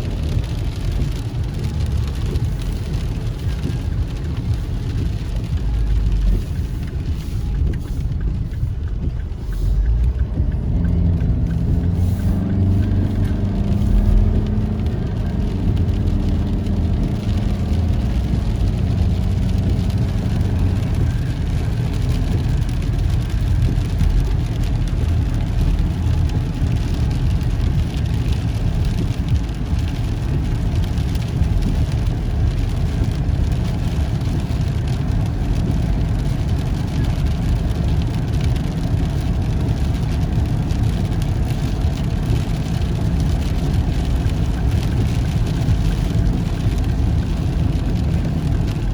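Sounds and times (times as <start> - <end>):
vehicle engine and road rumble: 0.0 - 48.9
heavy rain hiss: 0.3 - 48.9.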